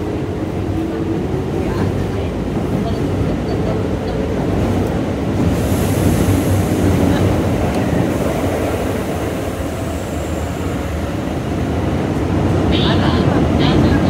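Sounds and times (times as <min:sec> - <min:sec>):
train rumble inside carriage: 0:00.0 - 0:14.0.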